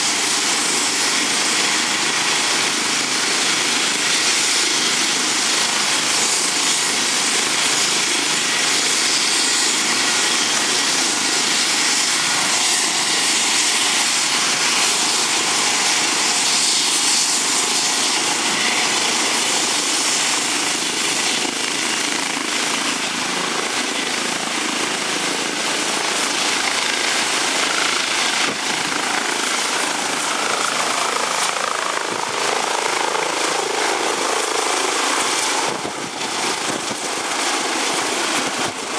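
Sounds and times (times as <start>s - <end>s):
helicopter turbine and rotor noise: 0.0s - 38.9s.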